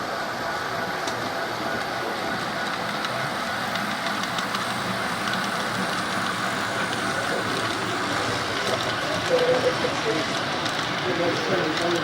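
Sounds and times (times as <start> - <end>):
model train running: 0.0 - 12.0
wheels clicking on track: 1.0 - 12.0.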